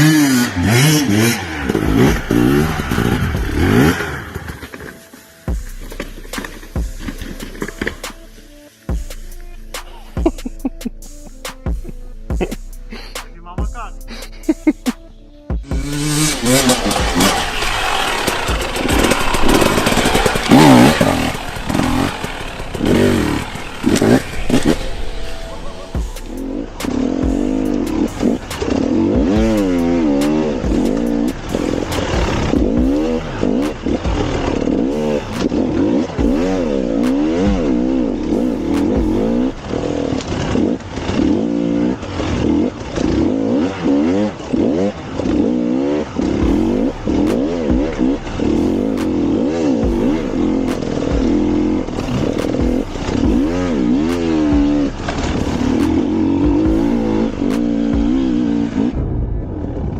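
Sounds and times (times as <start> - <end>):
engines revving hard: 0.0 - 5.0, 15.6 - 59.2.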